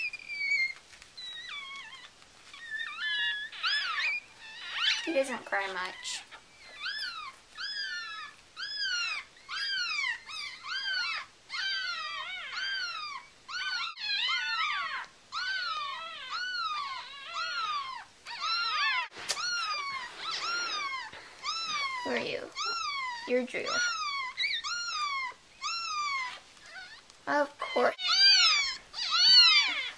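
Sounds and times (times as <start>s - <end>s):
puppy crying: 0.0s - 29.9s.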